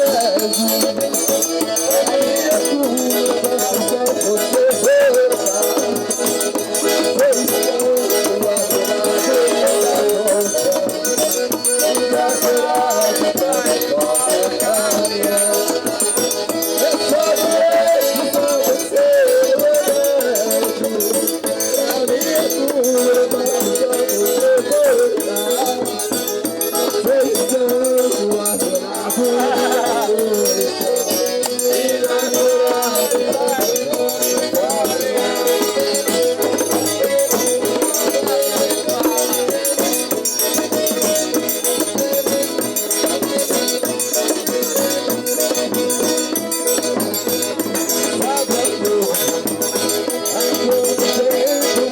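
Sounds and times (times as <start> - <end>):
button accordion playing: 0.0 - 51.9.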